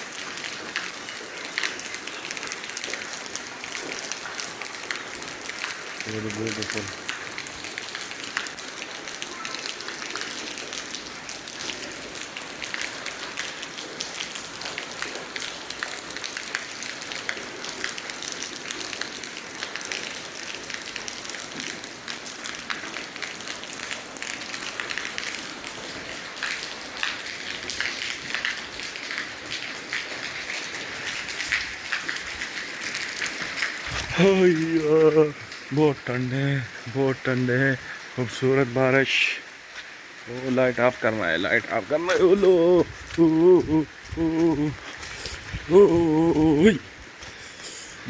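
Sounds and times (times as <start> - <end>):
heavy rain pattering: 0.0 - 48.0.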